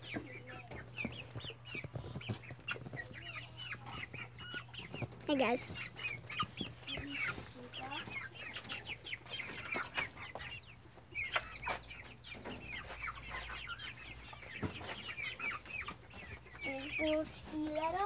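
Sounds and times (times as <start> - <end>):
chickens chirping: 0.0 - 18.0.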